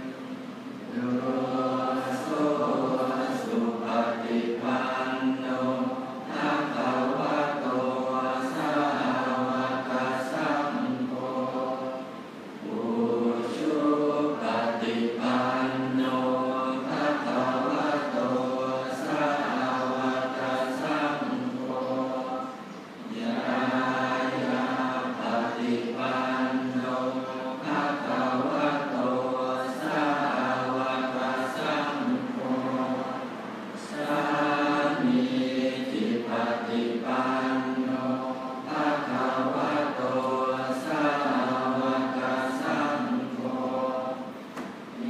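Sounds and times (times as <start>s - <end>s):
monks chanting in unison: 0.0s - 45.0s.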